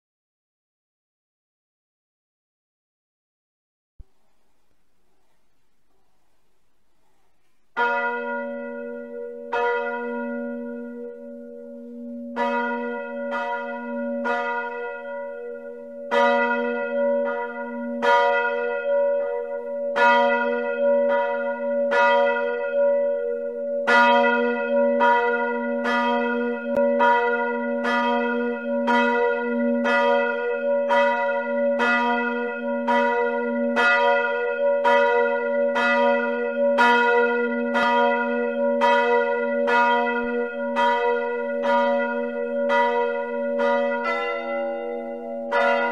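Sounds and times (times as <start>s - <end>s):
church bells pealing: 7.8s - 45.9s.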